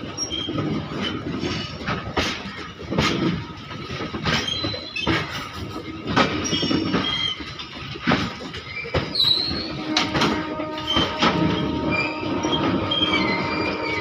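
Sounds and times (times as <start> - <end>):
train rumble: 0.0 - 14.0
train wheels clacking over rail joints: 0.0 - 14.0
wheel squeals: 0.1 - 1.7, 4.2 - 14.0.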